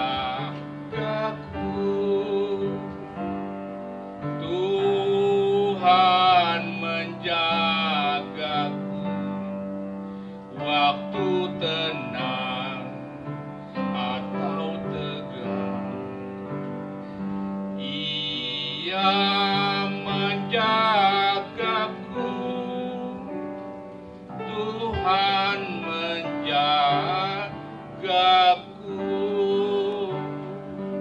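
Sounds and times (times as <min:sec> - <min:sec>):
man singing into a microphone: 0:00.0 - 0:03.6, 0:04.3 - 0:09.8, 0:10.5 - 0:16.8, 0:17.4 - 0:31.0
sustained instrumental accompaniment: 0:00.0 - 0:31.0.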